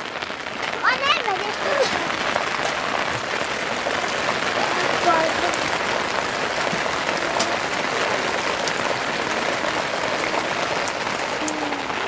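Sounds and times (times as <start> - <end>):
heavy rain: 0.0 - 12.0
water dripping off roof: 0.0 - 12.0.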